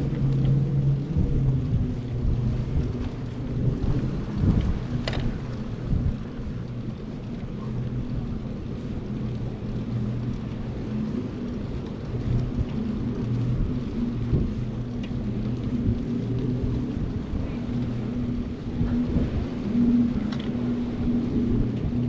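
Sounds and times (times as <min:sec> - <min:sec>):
faint low hum: 0:00.0 - 0:22.0
wind buffeting microphone: 0:00.0 - 0:22.0.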